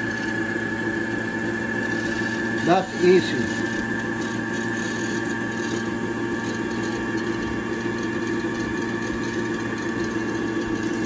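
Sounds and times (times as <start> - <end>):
sewing machine motor whirring: 0.0 - 11.0.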